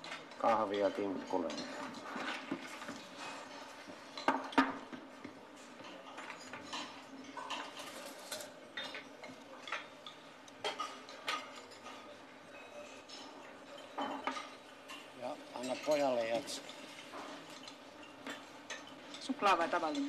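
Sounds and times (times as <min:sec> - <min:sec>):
crockery and cutlery clinking: 0:00.0 - 0:20.0.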